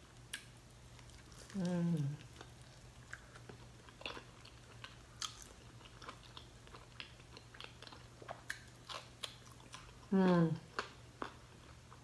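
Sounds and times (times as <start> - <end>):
crisp crust crackling: 0.0 - 10.0
chewing and mouth smacking: 0.3 - 12.0.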